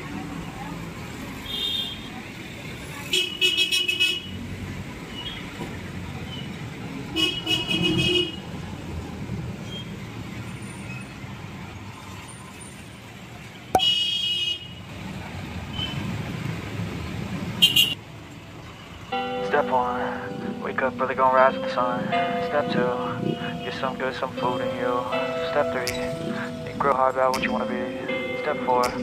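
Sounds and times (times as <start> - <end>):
road traffic rumbling: 0.0 - 29.0.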